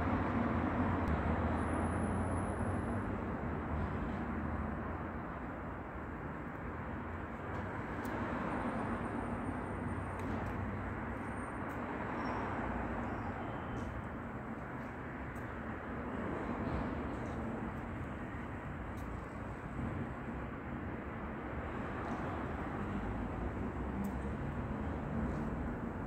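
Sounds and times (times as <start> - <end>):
street rumble and hiss: 0.0 - 26.0.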